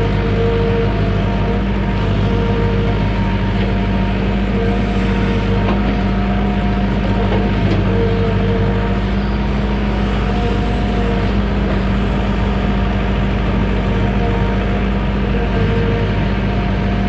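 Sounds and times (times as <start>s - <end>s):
excavator diesel engine: 0.0s - 17.0s
hydraulic whine: 0.0s - 17.0s.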